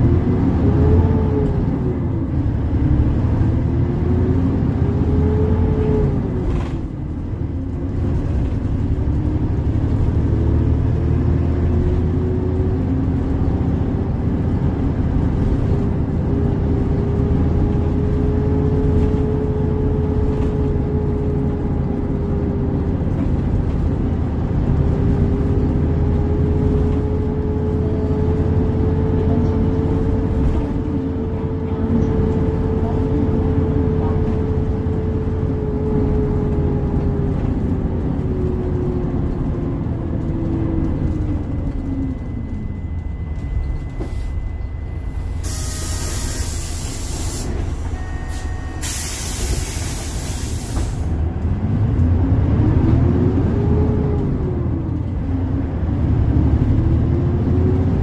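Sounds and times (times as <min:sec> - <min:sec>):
bus engine droning: 0:00.0 - 0:58.0.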